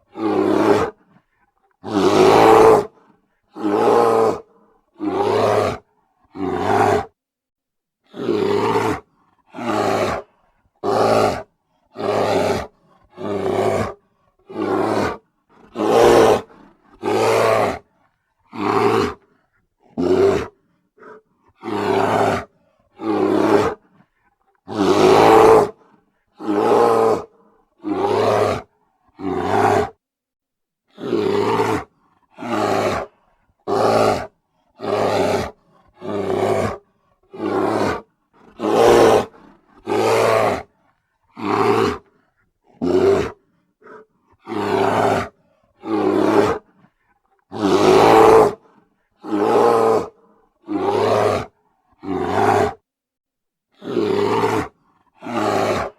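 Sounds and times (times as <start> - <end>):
bear roaring: 0.0 - 1.2, 1.8 - 7.2, 8.1 - 17.9, 18.5 - 24.0, 24.6 - 30.0, 30.9 - 46.8, 47.4 - 52.8, 53.8 - 55.9.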